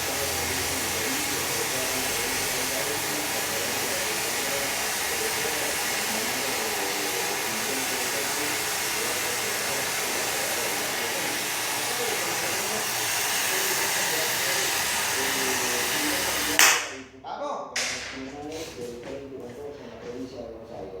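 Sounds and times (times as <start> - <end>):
blower running with rushing hiss: 0.0 - 17.0.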